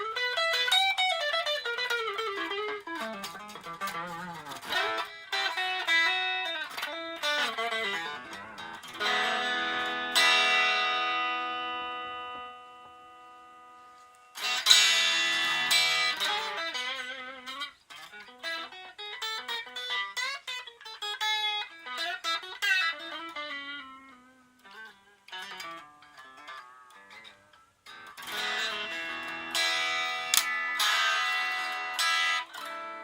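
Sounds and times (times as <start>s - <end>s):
distorted electric guitar: 0.0s - 33.0s.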